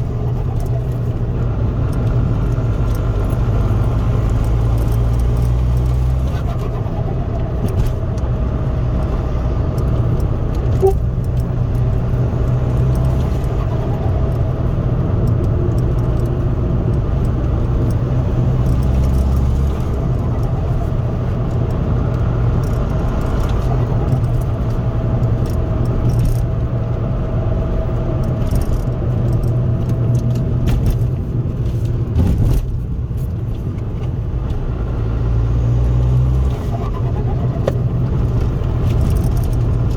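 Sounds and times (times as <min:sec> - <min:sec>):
low engine drone: 0:00.0 - 0:31.0, 0:35.4 - 0:39.9
road noise: 0:00.0 - 0:39.9.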